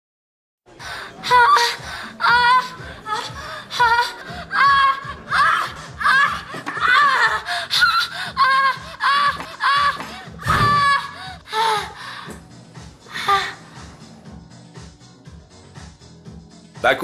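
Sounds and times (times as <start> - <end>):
soft background music: 0.7 - 17.0.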